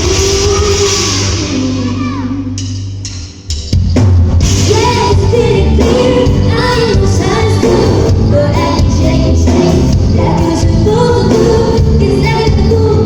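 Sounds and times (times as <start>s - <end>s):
woman singing pop song: 0.0s - 2.6s, 4.6s - 13.0s
bass-heavy backing track: 0.0s - 13.0s.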